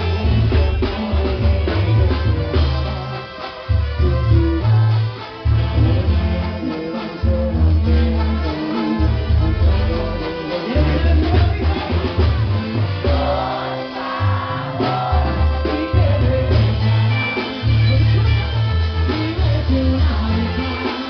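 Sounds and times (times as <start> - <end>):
live latin band playing: 0.0 - 21.0
man singing into microphone: 0.0 - 21.0
strong bass line: 0.0 - 21.0.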